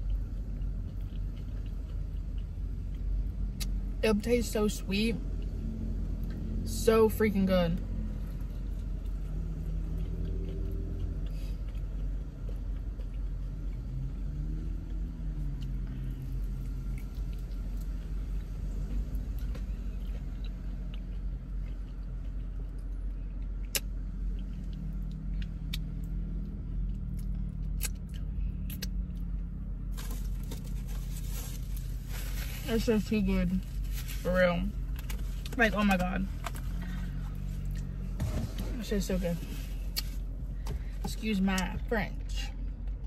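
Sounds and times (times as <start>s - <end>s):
low rumble inside car: 0.0s - 43.0s.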